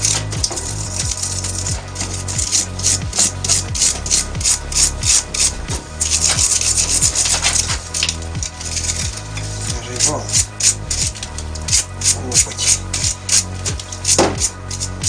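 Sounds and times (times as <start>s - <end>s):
hand scrubbing metal: 0.0s - 15.0s.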